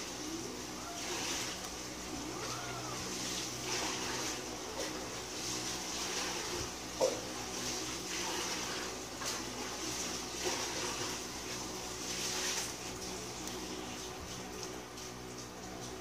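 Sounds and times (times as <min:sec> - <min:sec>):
airy hiss with low hum: 0:00.0 - 0:16.0.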